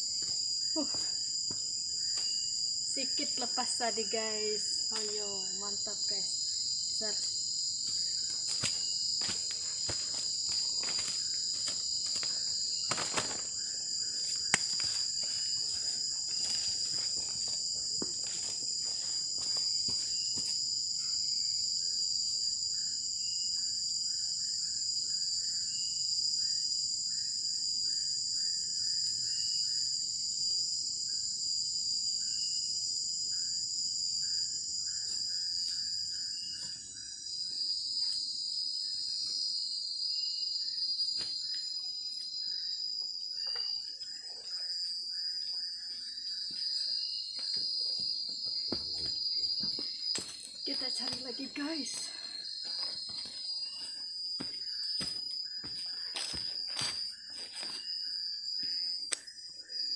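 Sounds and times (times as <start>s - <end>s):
crickets and insects chorus: 0.0s - 59.9s.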